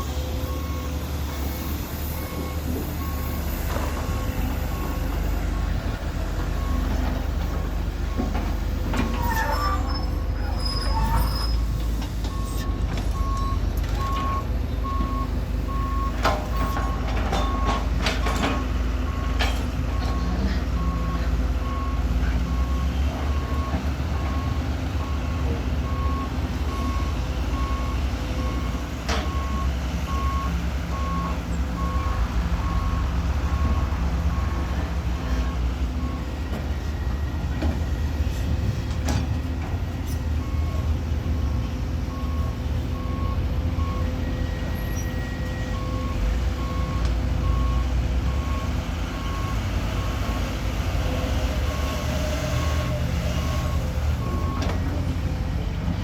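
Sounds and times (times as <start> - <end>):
reversing alarm beeping: 0.0 - 50.4, 51.5 - 55.0
truck engine rumble: 0.0 - 56.0.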